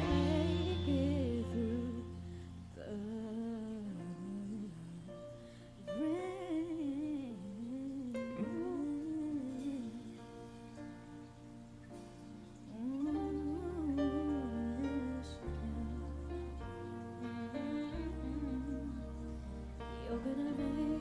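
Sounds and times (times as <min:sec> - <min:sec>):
woman singing pop ballad: 0:00.0 - 0:10.7, 0:12.7 - 0:21.0.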